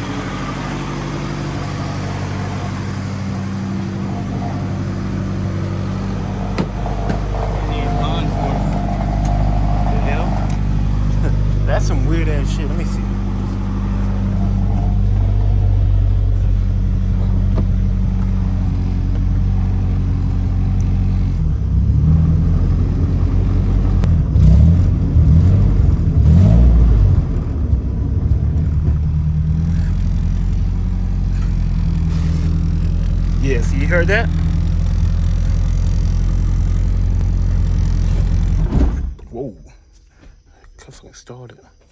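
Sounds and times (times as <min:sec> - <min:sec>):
uneven wavering engine noise: 0:00.0 - 0:39.1
car engine idling: 0:00.0 - 0:40.8.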